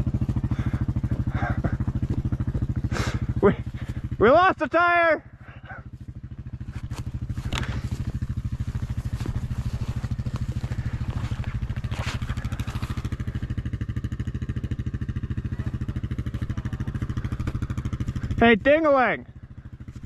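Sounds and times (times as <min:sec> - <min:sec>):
atv engine idling: 0:00.0 - 0:20.0.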